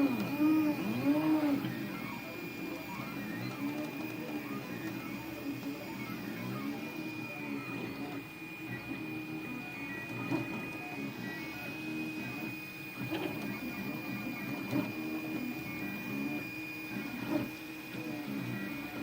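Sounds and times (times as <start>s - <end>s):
stepper motors whirring: 0.0s - 19.0s.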